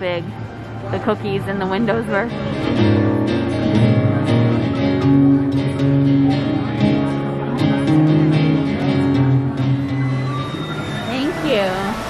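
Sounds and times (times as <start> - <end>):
guitar music: 0.0 - 11.5.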